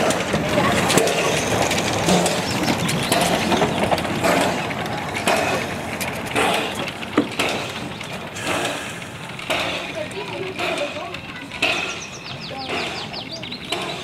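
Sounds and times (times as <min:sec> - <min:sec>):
steam train rumble and clatter: 0:00.0 - 0:14.0.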